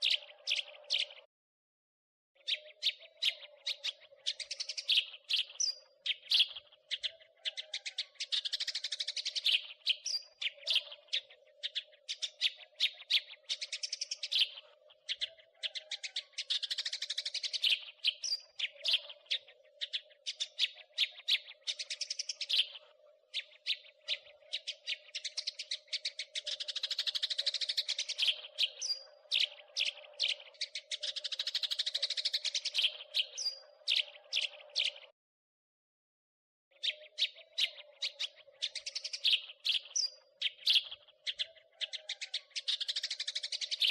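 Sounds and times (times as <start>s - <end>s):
sparrow chirping: 0.0s - 1.3s, 2.4s - 35.1s, 36.7s - 43.9s.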